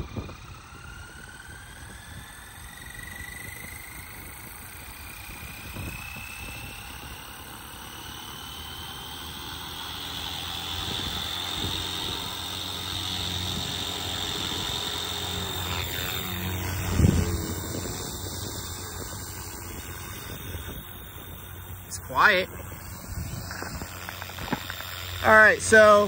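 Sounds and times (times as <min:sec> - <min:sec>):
helicopter rotor whine: 0:00.0 - 0:26.0.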